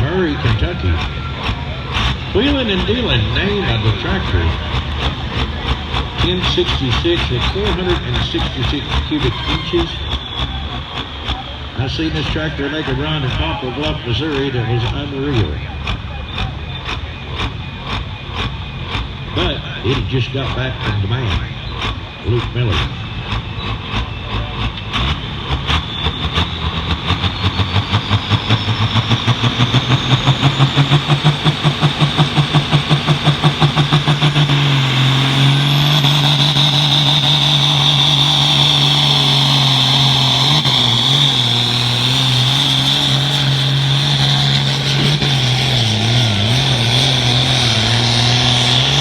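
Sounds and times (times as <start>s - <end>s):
high engine whine: 0.0s - 49.0s
tractor diesel engine at full throttle: 0.0s - 49.0s.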